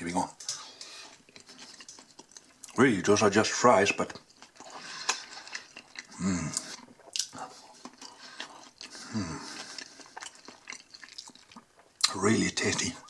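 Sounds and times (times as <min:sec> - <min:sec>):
person chewing food: 0:00.4 - 0:02.8, 0:04.1 - 0:13.0.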